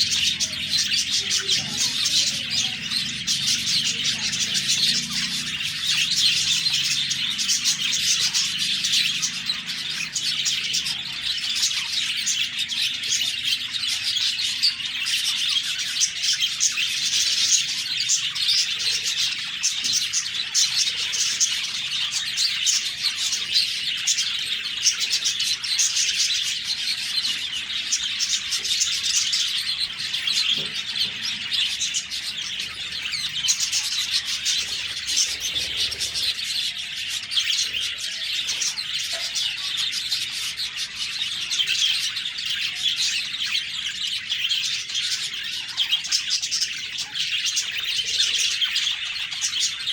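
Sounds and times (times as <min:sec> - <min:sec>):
budgerigars chirping: 0:00.0 - 0:49.9.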